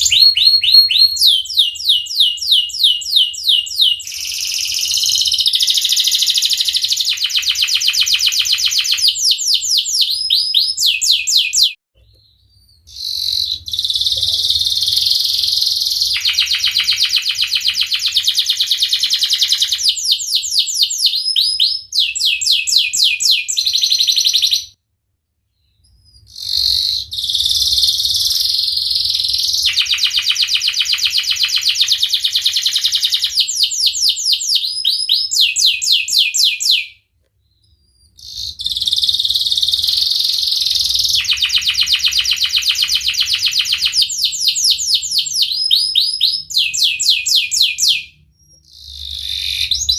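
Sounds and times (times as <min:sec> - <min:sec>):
canary singing trills: 0:00.0 - 0:24.8, 0:25.5 - 0:49.9.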